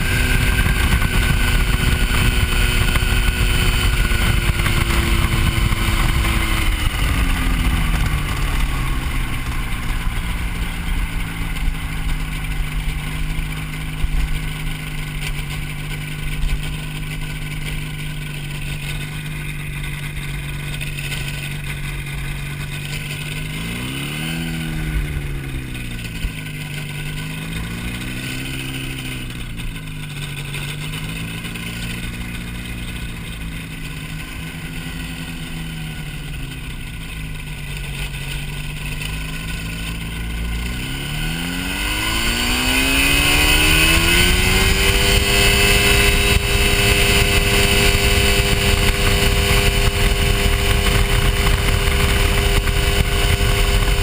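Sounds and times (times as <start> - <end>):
light airplane engine running: 0.0 - 54.0.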